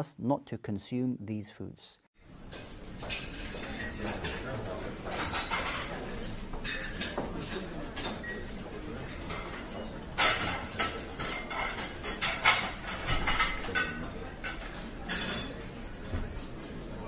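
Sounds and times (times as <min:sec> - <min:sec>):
crockery and cutlery clinking: 0:02.4 - 0:17.0.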